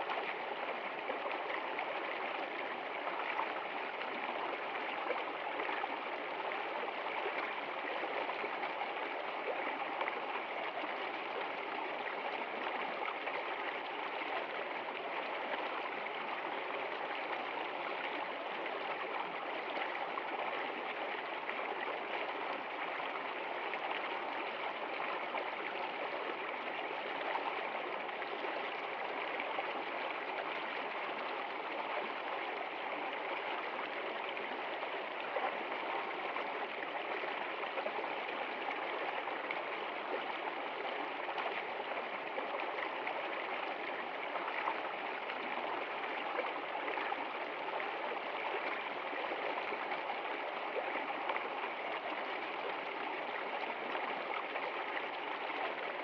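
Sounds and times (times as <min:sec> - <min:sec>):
stream rushing over cascade: 0:00.0 - 0:56.0.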